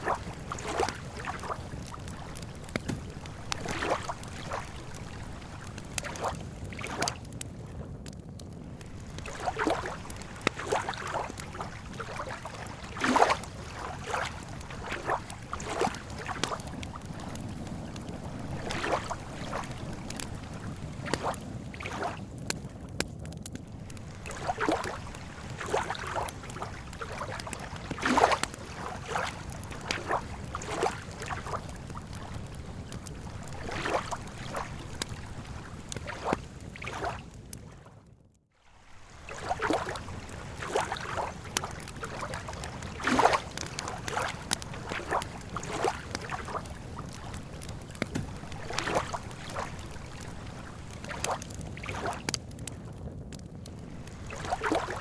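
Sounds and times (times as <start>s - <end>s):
lake water lapping: 0.0s - 7.3s, 8.7s - 22.2s, 23.7s - 37.9s, 38.6s - 52.4s, 53.7s - 55.0s
campfire crackling and popping: 0.0s - 37.7s, 38.8s - 55.0s.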